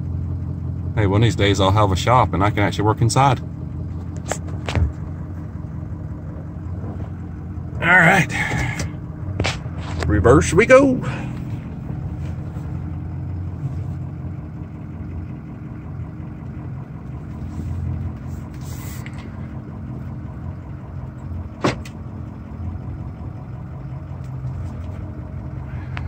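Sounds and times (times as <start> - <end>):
pickup truck engine running: 0.0 - 26.0.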